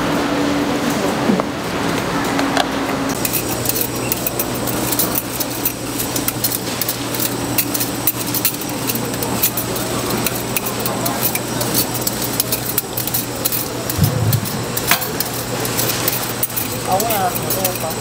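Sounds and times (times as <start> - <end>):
steady low hum: 2.6 - 18.0
vegetable peelers scraping: 3.2 - 18.0.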